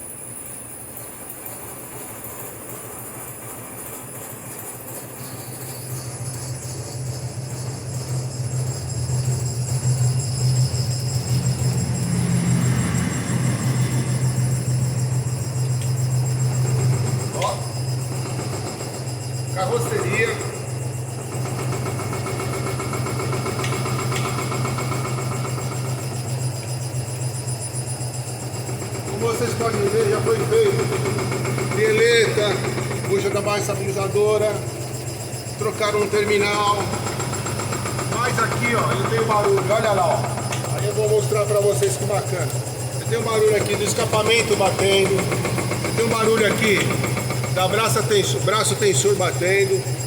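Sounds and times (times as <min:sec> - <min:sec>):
truck parts rattling and knocking: 0:02.1 - 0:50.0
test machine low hum: 0:05.0 - 0:50.0.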